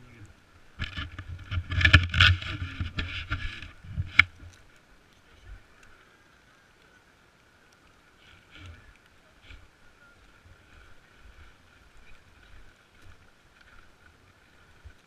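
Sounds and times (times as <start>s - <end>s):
faint crackles: 0.0s - 15.0s.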